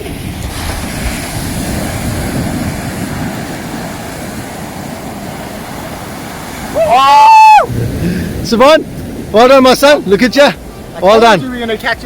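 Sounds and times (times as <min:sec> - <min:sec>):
surf on the shore: 0:00.0 - 0:12.0
wind: 0:00.0 - 0:12.0.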